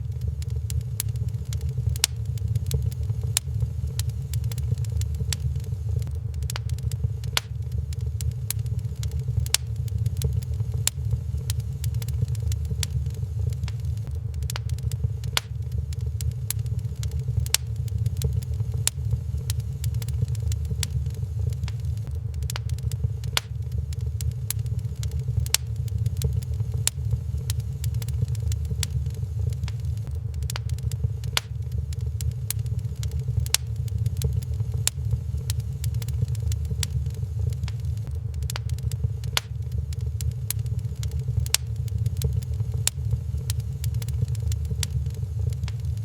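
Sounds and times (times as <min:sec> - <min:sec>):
fire crackling and popping: 0:00.0 - 0:46.0
fire rumbling: 0:00.0 - 0:46.0.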